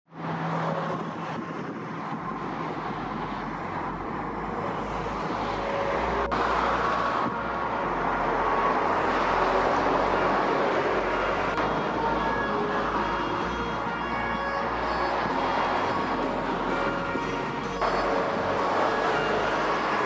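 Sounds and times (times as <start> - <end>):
motorway traffic passing at speed: 0.1 - 20.0.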